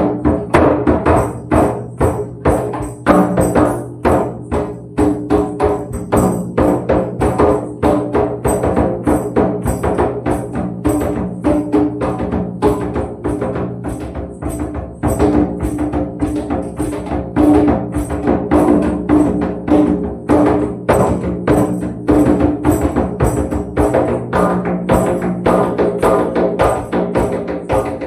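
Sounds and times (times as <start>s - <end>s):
hand percussion with jingles: 0.0s - 28.0s.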